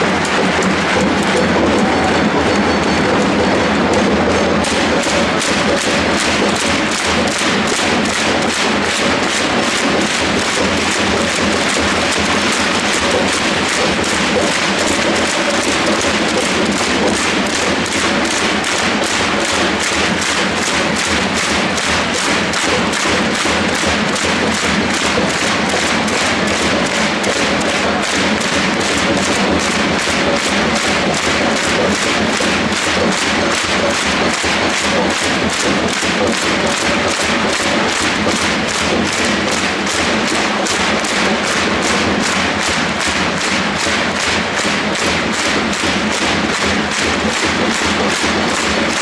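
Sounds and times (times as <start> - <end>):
drums beating: 0.0 - 49.0.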